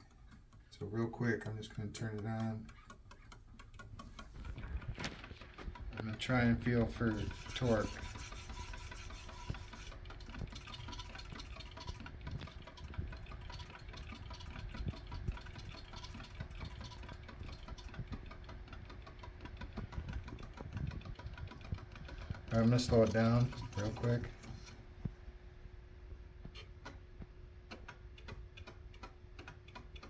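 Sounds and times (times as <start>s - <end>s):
motor rapid even ticking: 0.0s - 24.8s.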